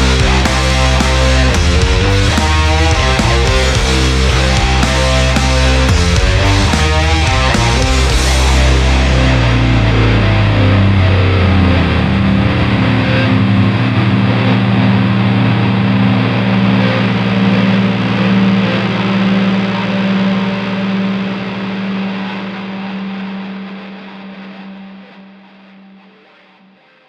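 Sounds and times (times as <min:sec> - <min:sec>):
doom metal song: 0:00.0 - 0:25.4
distorted electric guitar chord ringing: 0:00.0 - 0:26.2.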